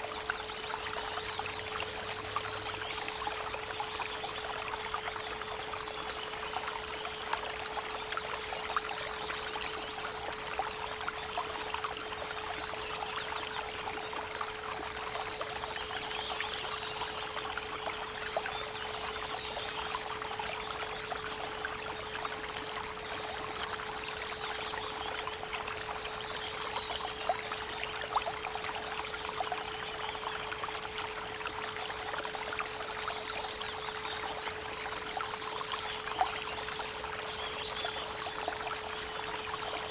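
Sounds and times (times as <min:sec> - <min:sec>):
constant pure tone: 0:00.0 - 0:39.9
creek water running: 0:00.0 - 0:39.9.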